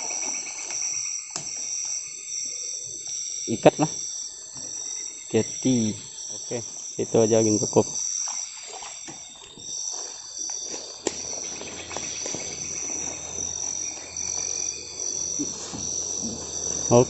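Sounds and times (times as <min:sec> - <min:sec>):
night insects chirring: 0:00.0 - 0:17.0.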